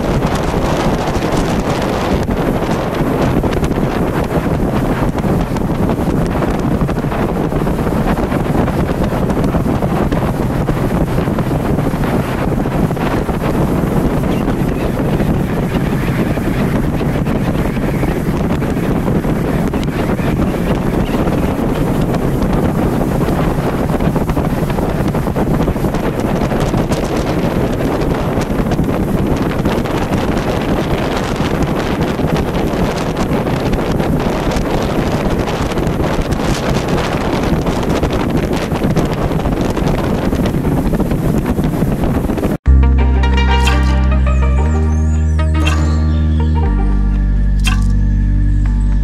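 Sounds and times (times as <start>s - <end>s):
water along the hull: 0.0s - 42.7s
wind buffeting microphone: 0.0s - 42.7s
motorboat running noise: 0.0s - 49.0s.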